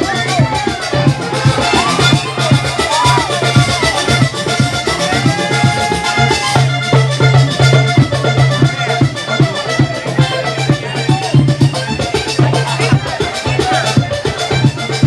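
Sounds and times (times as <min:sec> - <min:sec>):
accordion melody: 0:00.0 - 0:15.0
drum strokes: 0:00.0 - 0:15.0.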